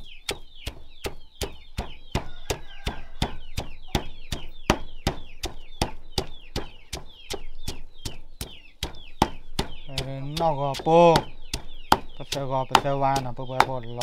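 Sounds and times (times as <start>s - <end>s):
stone pestle pounding in mortar: 0.0s - 14.0s.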